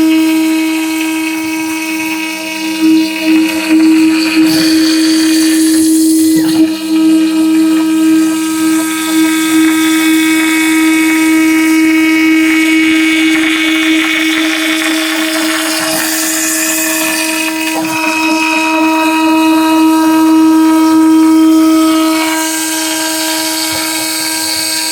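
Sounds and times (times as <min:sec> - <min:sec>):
router bit cutting wood: 0:00.0 - 0:24.9
router spindle high whine: 0:00.0 - 0:24.9.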